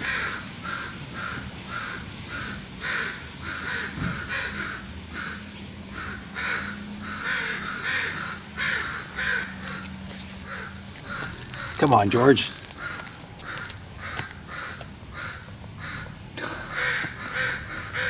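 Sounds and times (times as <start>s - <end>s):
crows cawing: 0.0s - 18.0s.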